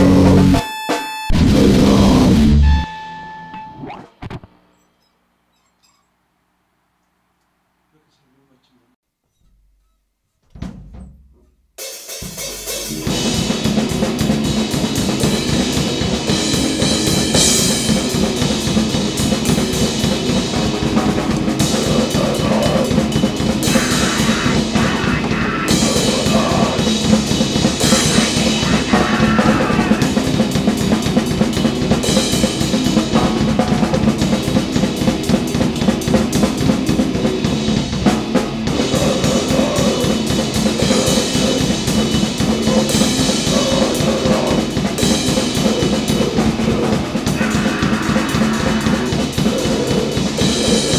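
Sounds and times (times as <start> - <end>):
grindcore band playing: 0.0 - 2.9, 11.8 - 50.9.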